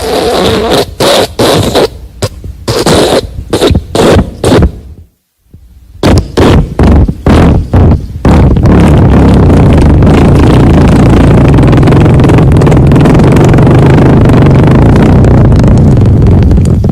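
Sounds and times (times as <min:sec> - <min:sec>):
loud fart: 0:00.0 - 0:05.0, 0:06.0 - 0:16.9.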